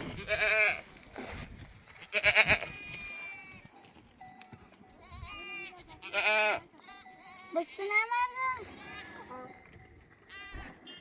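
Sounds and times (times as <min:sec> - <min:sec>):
sheep and goats bleating: 0:00.0 - 0:01.2, 0:02.0 - 0:11.0.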